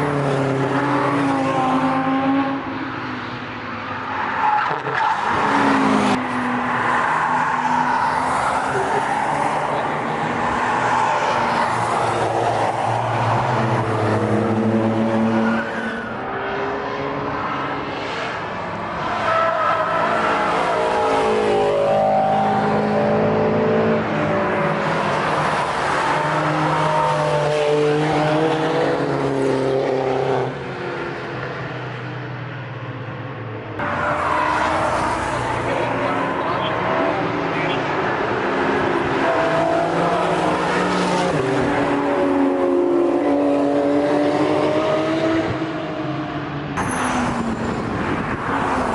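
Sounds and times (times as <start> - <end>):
engines revving and passing: 0.0 - 48.9.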